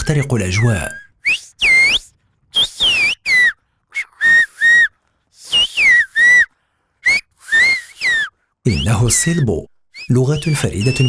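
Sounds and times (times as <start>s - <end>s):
person whistling gliding notes: 0.0s - 9.4s, 10.0s - 11.0s.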